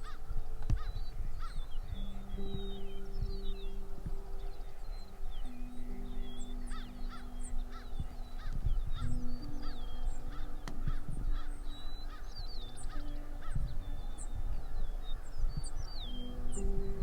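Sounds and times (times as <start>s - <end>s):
geese honking: 0.0s - 17.0s
small birds chirping: 0.0s - 17.0s.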